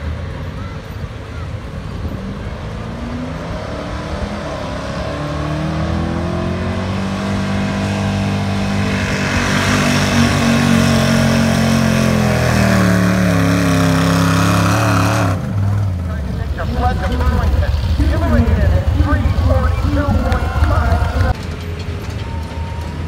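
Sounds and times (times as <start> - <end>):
truck engine at high revs: 1.1 - 23.0.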